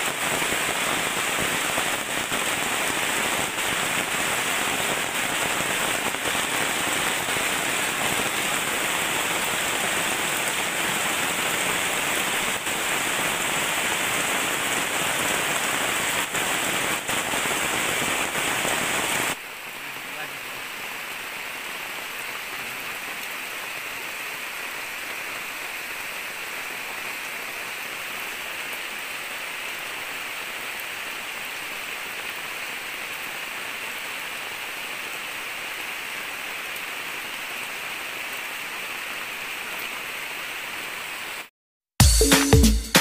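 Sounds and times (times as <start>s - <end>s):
rain on foliage: 0.0s - 41.5s.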